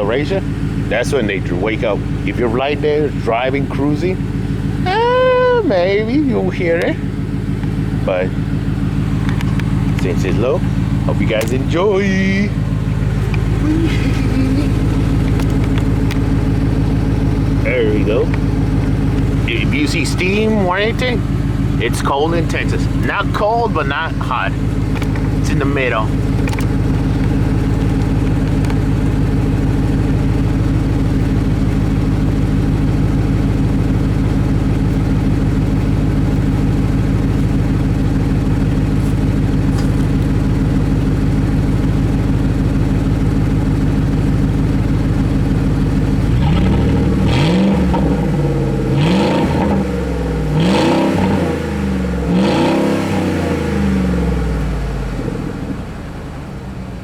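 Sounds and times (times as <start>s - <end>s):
truck engine idling and revving: 0.0s - 57.0s.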